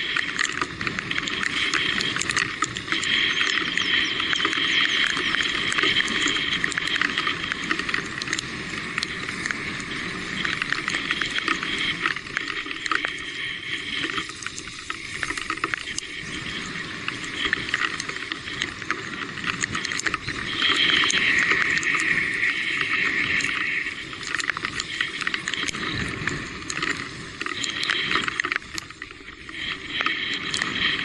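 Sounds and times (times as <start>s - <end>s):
high steady motor tone: 0.0s - 30.7s
bike clicks and rattles: 0.0s - 31.0s.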